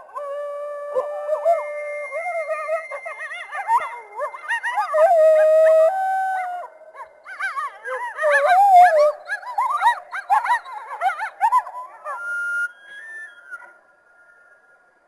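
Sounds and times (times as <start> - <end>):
coyotes howling and yipping: 0.0 - 14.8.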